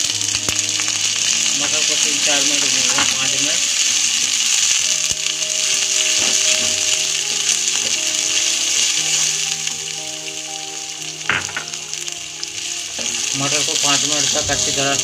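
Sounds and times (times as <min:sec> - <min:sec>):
peas sizzling in oil: 0:00.0 - 0:15.0
soft music notes: 0:00.0 - 0:15.0.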